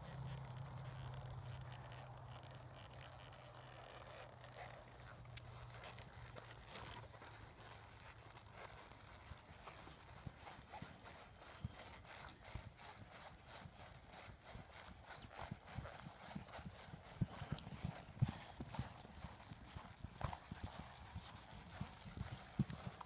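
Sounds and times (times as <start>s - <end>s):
horse hoofbeats on dirt: 0.0s - 23.0s.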